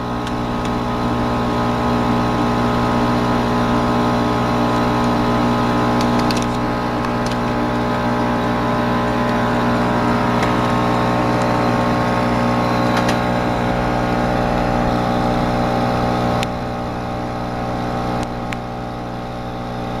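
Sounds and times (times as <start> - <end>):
laser cutter humming: 0.0 - 20.0.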